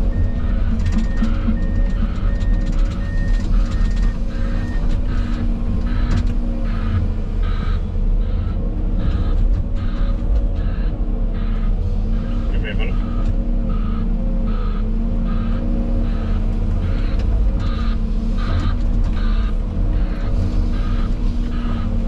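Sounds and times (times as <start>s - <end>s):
reversing alarm beeping: 0.0s - 10.0s, 11.4s - 22.0s
heavy diesel machinery running: 0.0s - 22.0s.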